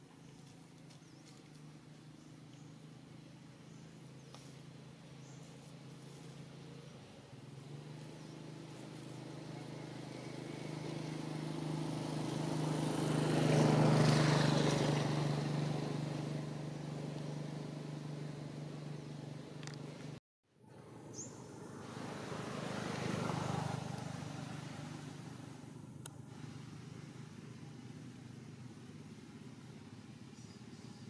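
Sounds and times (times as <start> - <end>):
motor vehicle passing by: 0.0 - 31.0.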